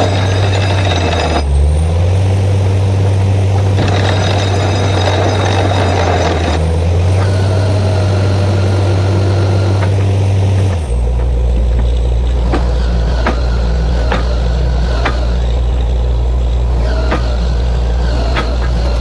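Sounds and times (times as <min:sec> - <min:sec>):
drilling rig droning: 0:00.0 - 0:19.0
sharp knocks: 0:03.0 - 0:19.0.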